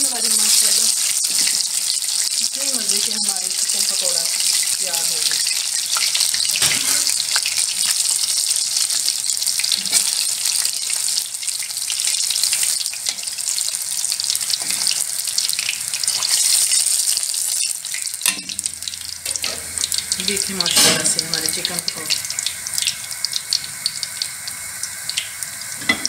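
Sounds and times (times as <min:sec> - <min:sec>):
chicken deep-frying sizzle: 0:00.0 - 0:26.0.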